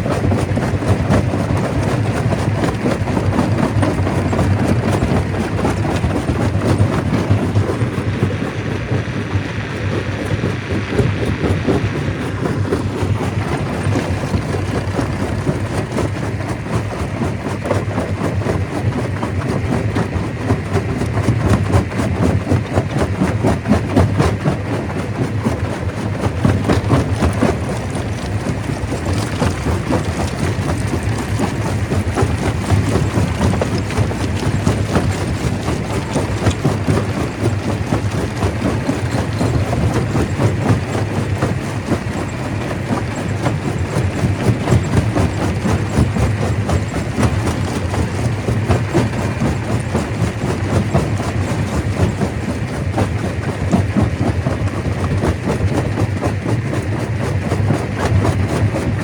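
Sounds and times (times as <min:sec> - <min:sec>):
stone crusher rumbling: 0:00.0 - 0:24.5, 0:25.1 - 0:52.9
rattling and knocking of rock: 0:00.0 - 0:59.0.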